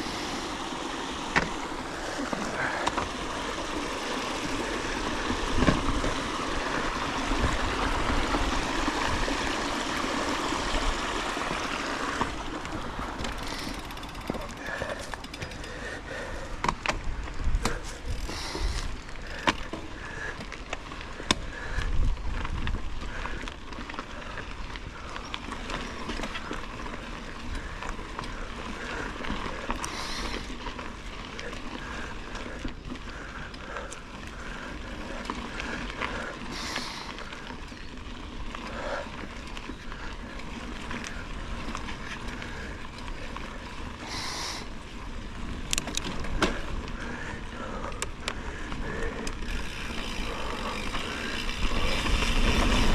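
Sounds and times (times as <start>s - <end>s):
bicycle chain and frame rattling: 0.0s - 52.9s
bicycle tyres rolling: 0.0s - 52.9s.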